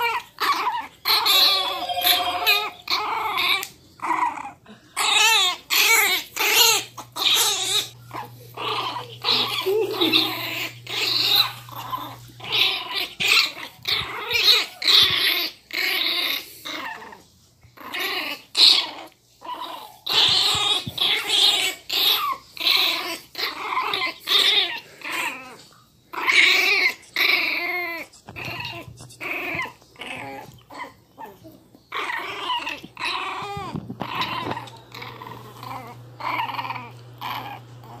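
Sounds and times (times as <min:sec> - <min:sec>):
puppy growling and yapping: 0:00.0 - 0:38.0.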